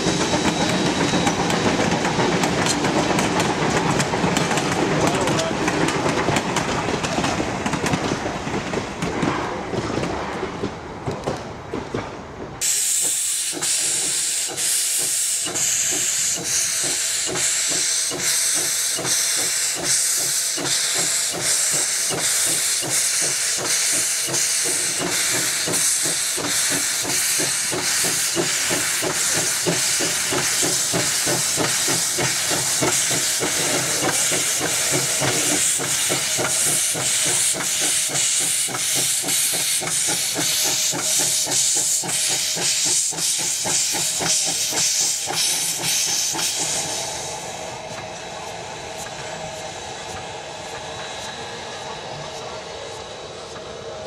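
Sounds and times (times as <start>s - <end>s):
steam hissing: 0.0s - 6.1s, 12.6s - 54.0s
steam locomotive exhaust chuffs: 0.0s - 10.1s, 12.6s - 54.0s
train wheels clacking on rail joints: 0.0s - 54.0s.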